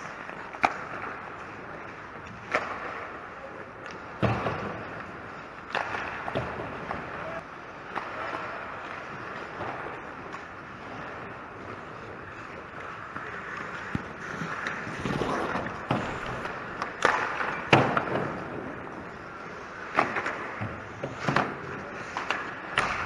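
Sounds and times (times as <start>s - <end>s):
hockey sticks and puck clacking: 0.0s - 23.0s
skate blades scraping ice: 0.0s - 23.0s.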